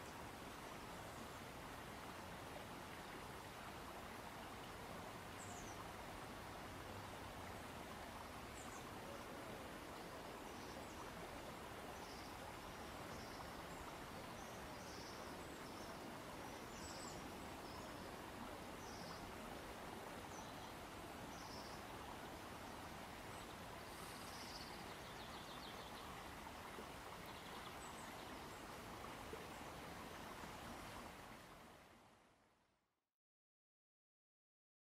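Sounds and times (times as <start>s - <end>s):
background hiss: 0.0s - 32.8s.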